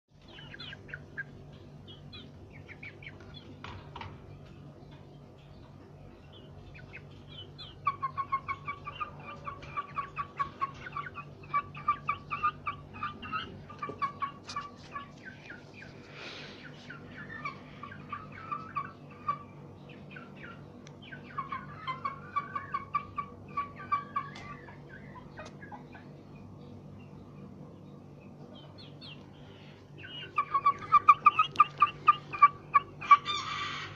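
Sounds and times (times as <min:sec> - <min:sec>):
chicken clucking: 0:00.2 - 0:26.6, 0:30.0 - 0:33.9.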